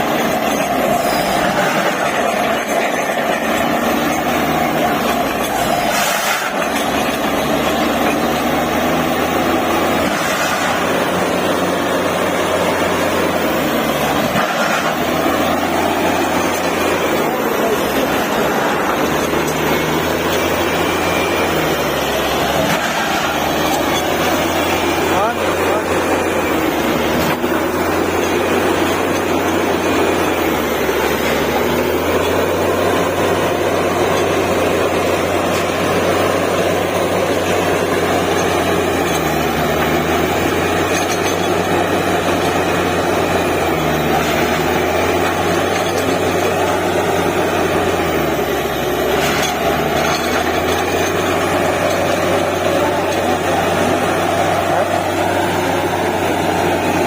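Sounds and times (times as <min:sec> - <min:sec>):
drilling rig engine drone: 0:00.0 - 0:57.0.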